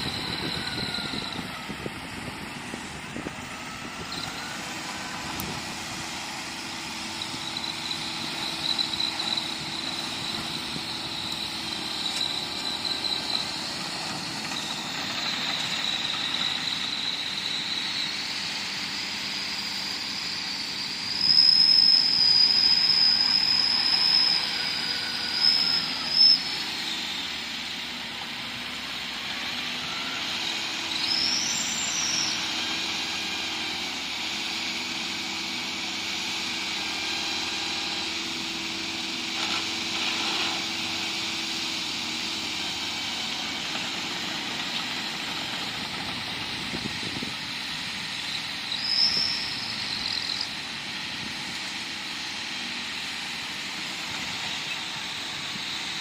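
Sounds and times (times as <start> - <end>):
bulldozer engine running: 0.0 - 56.0
high-pitched metallic squeal: 0.0 - 56.0.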